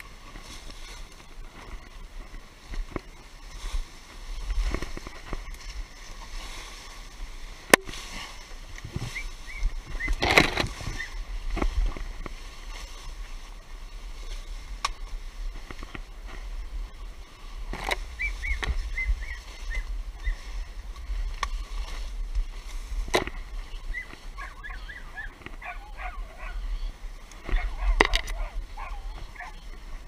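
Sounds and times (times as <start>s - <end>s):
rustling through scrub: 0.0s - 30.0s
steady low rumble: 0.0s - 30.0s.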